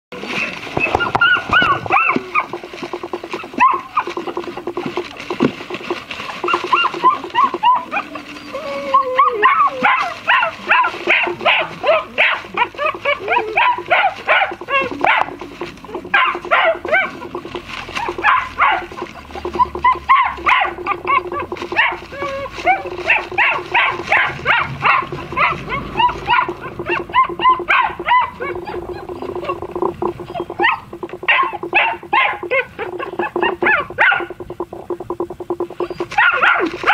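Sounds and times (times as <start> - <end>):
puppies yipping and barking: 0.2 - 36.9.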